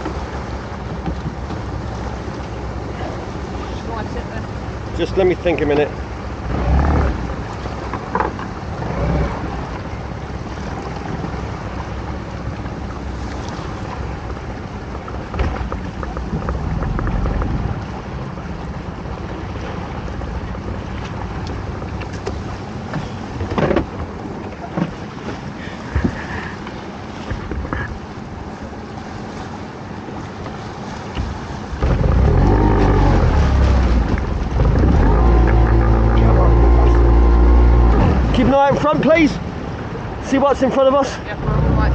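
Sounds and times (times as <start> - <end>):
gear knocking on boat: 0.0 - 3.3, 4.0 - 28.2, 30.1 - 40.2
boat engine idling: 0.0 - 41.9
water noise: 0.0 - 41.9
wind: 0.0 - 41.9.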